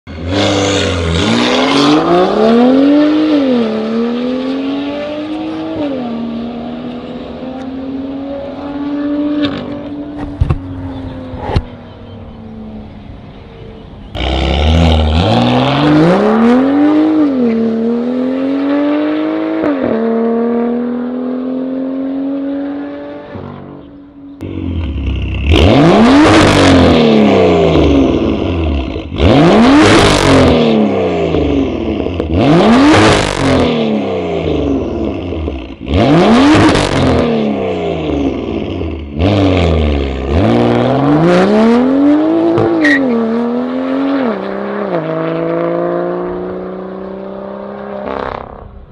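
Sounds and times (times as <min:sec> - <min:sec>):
car engine accelerating with upshifts: 0:00.1 - 0:48.9
car engine revving: 0:00.1 - 0:48.9.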